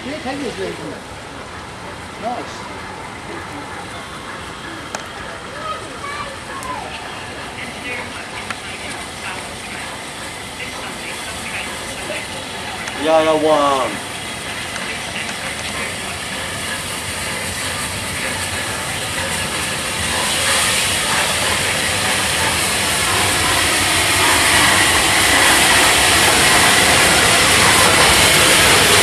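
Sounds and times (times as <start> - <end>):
steam hissing: 0.0 - 29.0
steam locomotives running: 0.0 - 29.0.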